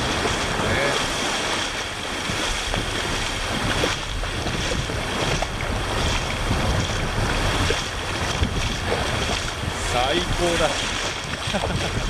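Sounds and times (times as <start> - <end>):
small waves washing: 0.0 - 12.0
wind rumbling on microphone: 0.0 - 12.0.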